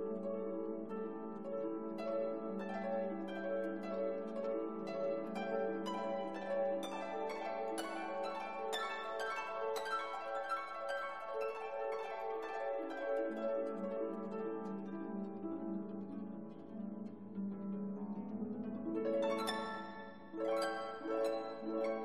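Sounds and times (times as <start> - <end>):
plucked string music: 0.0 - 22.0.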